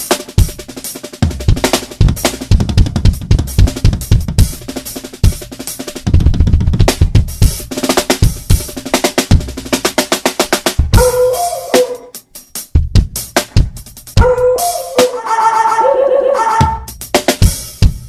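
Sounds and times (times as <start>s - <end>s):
drum kit playing: 0.0s - 18.0s.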